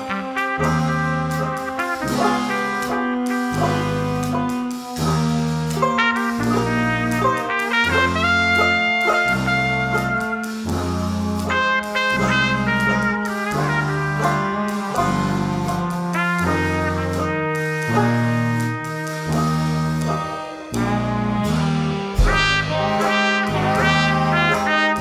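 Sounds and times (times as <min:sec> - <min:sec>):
low bass notes: 0:00.0 - 0:25.0
trombone: 0:00.0 - 0:25.0
trumpet: 0:00.0 - 0:25.0.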